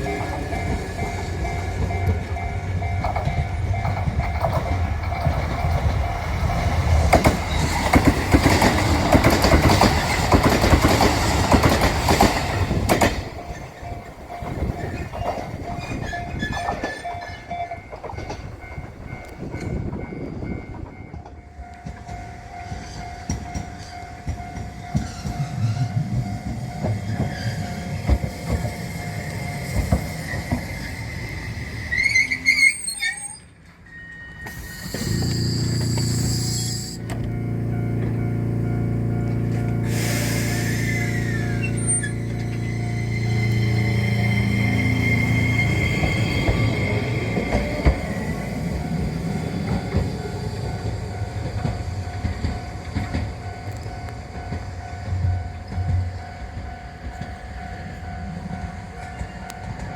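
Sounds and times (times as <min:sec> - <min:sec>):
diesel train passing: 0:00.0 - 0:59.9
streetcar humming past: 0:00.0 - 0:59.9
streetcar squeal: 0:00.0 - 0:59.9.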